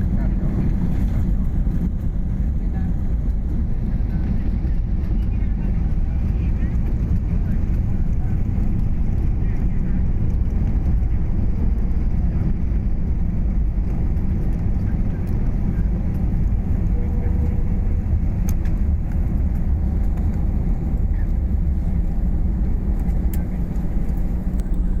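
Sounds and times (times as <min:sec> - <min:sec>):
passenger plane rumble: 0:00.0 - 0:25.0.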